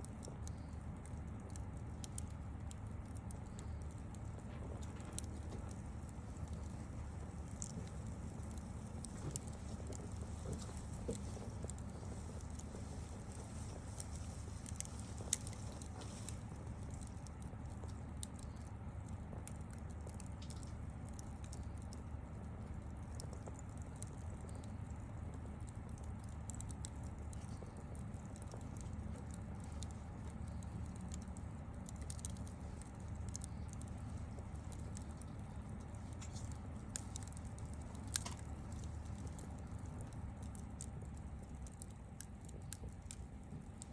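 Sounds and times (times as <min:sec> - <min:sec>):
bonfire crackling: 0:00.0 - 0:43.9
low steady rumble: 0:00.0 - 0:43.9.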